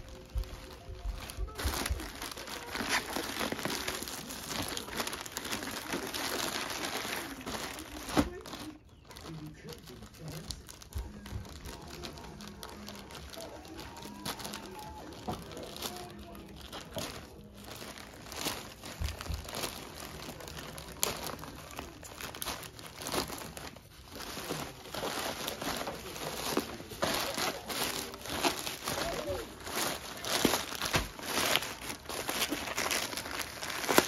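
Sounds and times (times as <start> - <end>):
packaging crinkling and rustling: 0.0 - 34.0.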